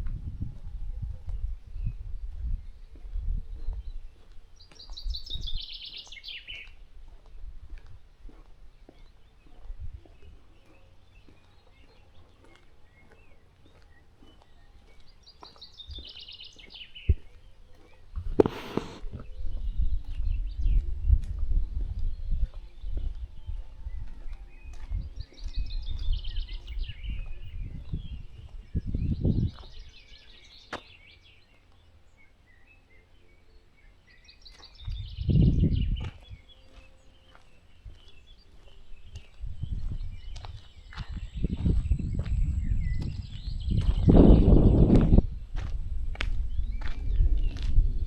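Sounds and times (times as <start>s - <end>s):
faint songbirds chirping: 0.2s - 48.0s.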